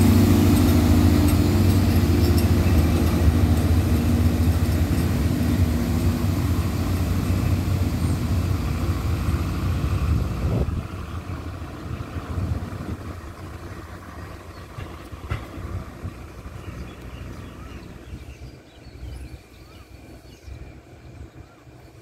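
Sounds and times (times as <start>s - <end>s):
diesel train engines humming: 0.0s - 22.0s.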